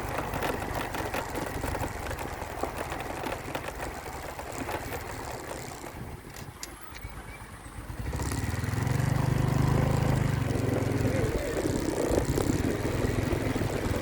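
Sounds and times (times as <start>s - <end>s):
road noise: 0.0s - 14.0s
vehicle engine: 0.0s - 14.0s.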